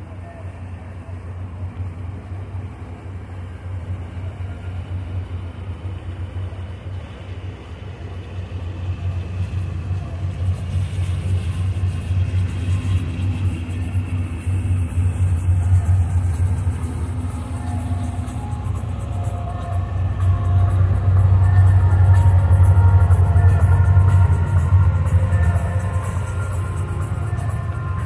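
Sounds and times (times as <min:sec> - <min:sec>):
boat engines droning: 0:00.0 - 0:28.0.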